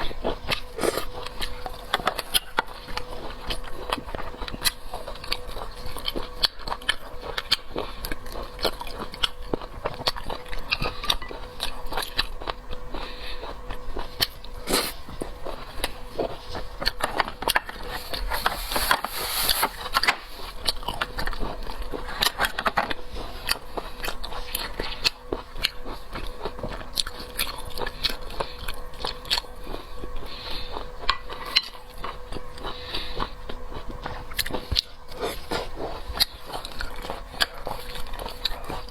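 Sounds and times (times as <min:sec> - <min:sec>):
faint steady hum: 0:00.0 - 0:38.9
person biting and chewing seafood: 0:00.0 - 0:38.9.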